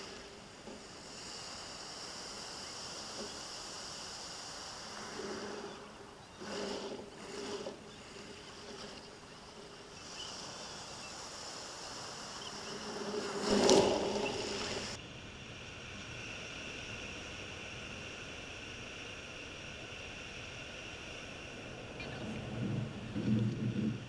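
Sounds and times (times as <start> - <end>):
surf washing on stony beach: 0.0 - 24.0.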